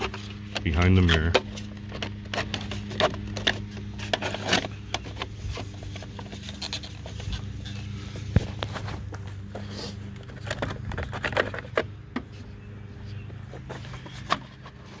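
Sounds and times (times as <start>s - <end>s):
plastic parts scraping and clicking: 0.0s - 15.0s
steady low hum: 0.0s - 15.0s.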